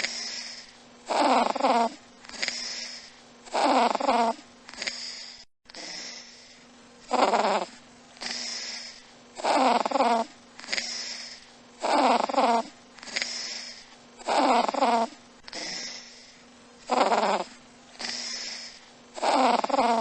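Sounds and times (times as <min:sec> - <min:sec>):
cat snoring: 0:00.0 - 0:20.0
soft hissing breath: 0:00.0 - 0:20.0.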